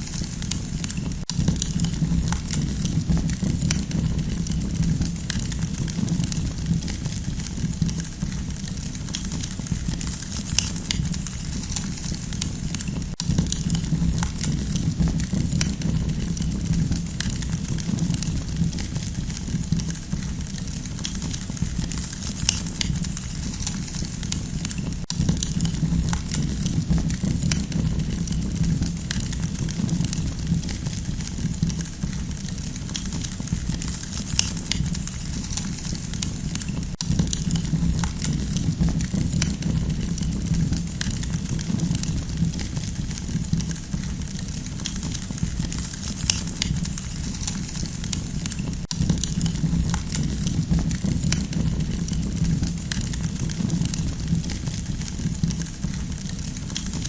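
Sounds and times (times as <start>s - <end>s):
campfire rumble: 0.0s - 57.0s
fire crackling and popping: 0.0s - 57.0s.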